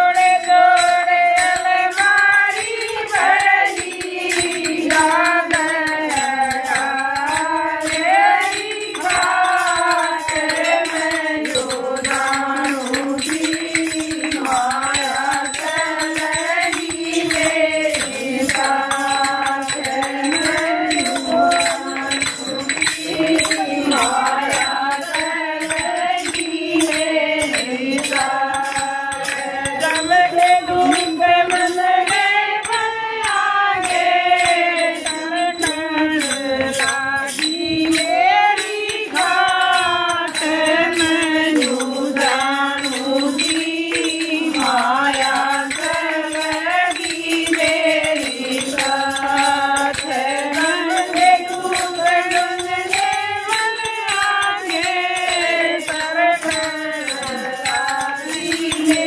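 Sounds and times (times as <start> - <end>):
women singing devotional chant: 0.0 - 59.0
wooden clappers jingling: 0.0 - 59.0.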